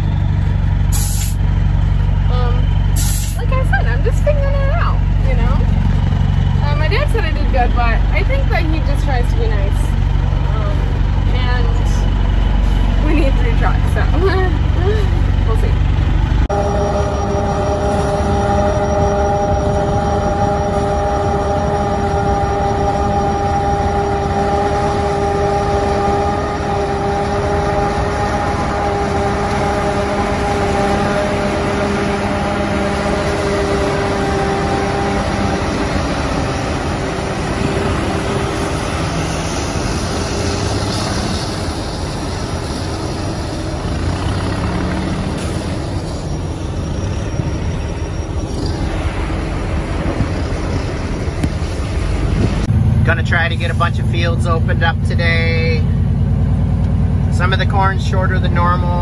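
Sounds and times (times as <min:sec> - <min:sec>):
harvester mechanical drone: 0:00.0 - 0:59.0
high machine whine: 0:00.0 - 0:59.0.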